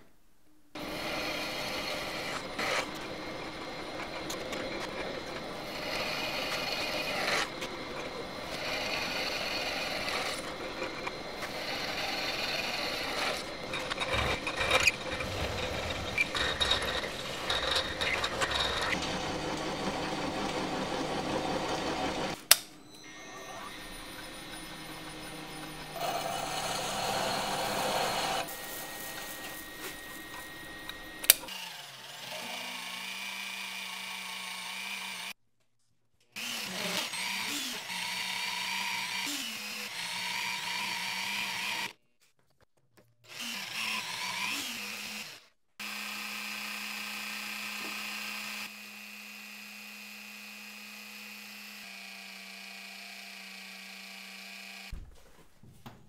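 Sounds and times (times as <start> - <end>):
drill press motor whining: 0.8 - 35.3, 36.4 - 41.9, 43.3 - 54.9.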